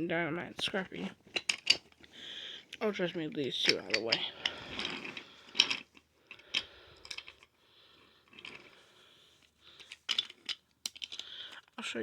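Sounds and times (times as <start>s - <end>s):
toy trains clicking and knocking: 0.5s - 2.1s, 2.7s - 7.6s, 8.2s - 8.8s, 9.4s - 12.0s
faint rustling: 0.6s - 11.6s.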